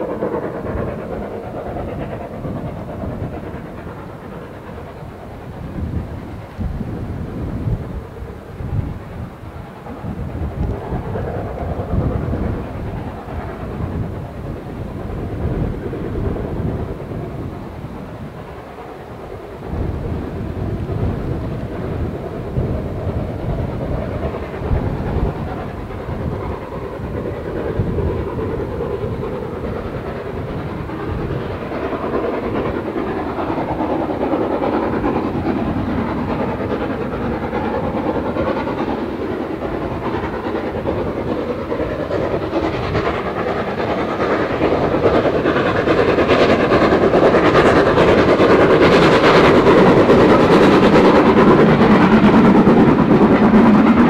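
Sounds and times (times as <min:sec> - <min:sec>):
steam train passing: 0:00.0 - 0:54.0.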